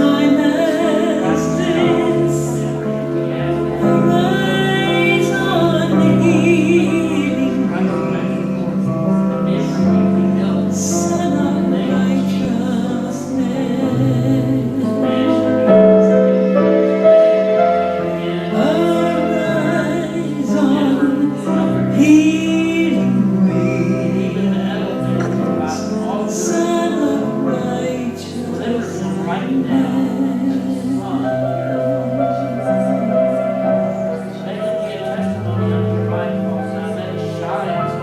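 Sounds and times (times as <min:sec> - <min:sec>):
instrumental accompaniment: 0:00.0 - 0:38.0.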